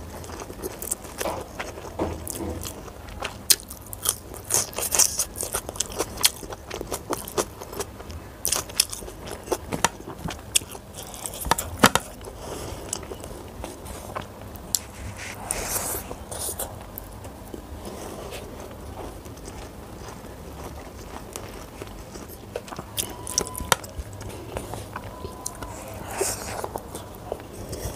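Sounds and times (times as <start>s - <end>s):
wet chewing and lip-smacking: 0.1s - 14.9s, 16.3s - 27.9s.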